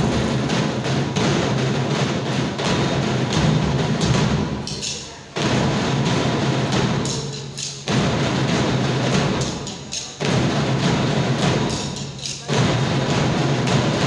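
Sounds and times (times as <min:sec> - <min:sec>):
marching drums: 0:00.0 - 0:14.0.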